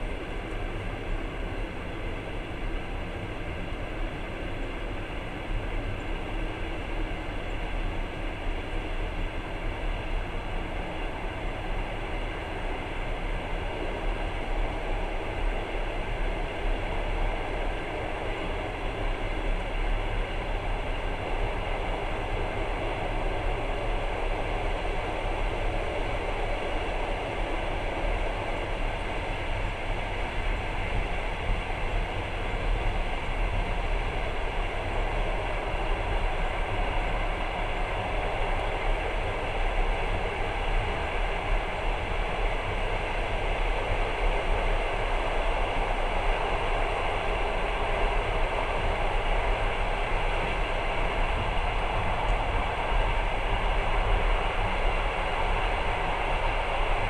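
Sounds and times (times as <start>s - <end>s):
train wheels and running gear: 0.0s - 57.0s.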